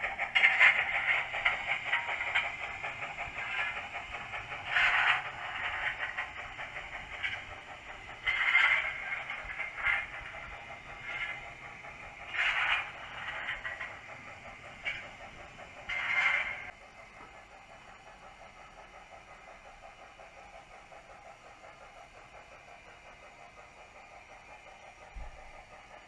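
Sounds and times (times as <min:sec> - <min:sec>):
model train clattering on track: 0:00.0 - 0:26.0
steam locomotive chuffs from speaker: 0:00.0 - 0:26.0.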